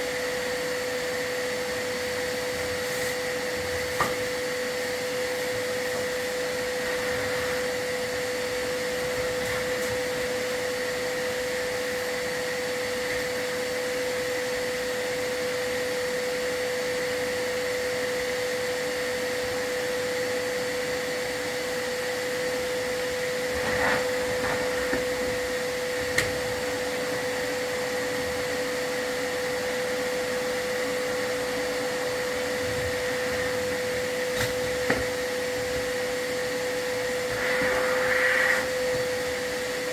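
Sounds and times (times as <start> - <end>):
vacuum motor whining: 0.0 - 15.9, 16.9 - 39.9.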